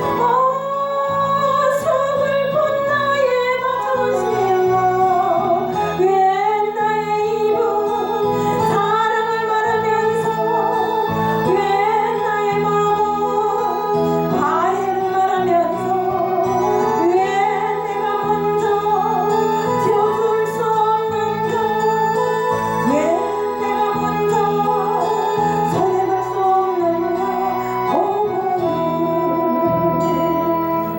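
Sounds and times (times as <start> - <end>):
instrumental accompaniment: 0.0 - 30.9
woman singing with vibrato: 0.0 - 30.9.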